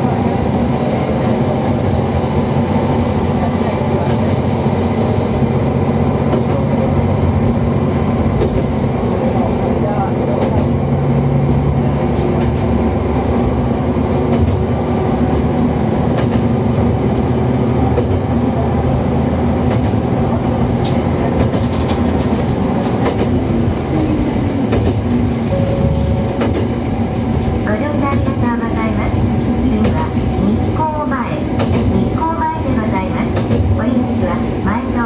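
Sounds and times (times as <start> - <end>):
railcar engine drone: 0.0 - 35.0.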